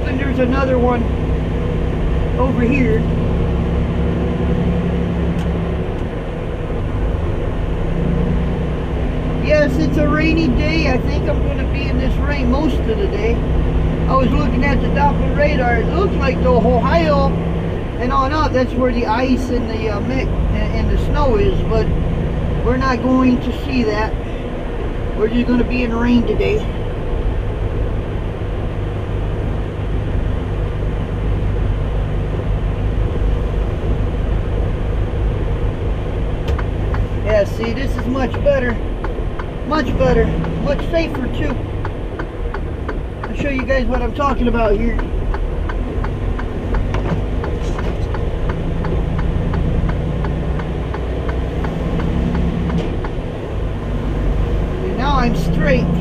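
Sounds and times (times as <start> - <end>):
road noise: 0.0 - 56.0
truck diesel engine drone: 0.0 - 56.0
turn signal ticking: 0.0 - 56.0.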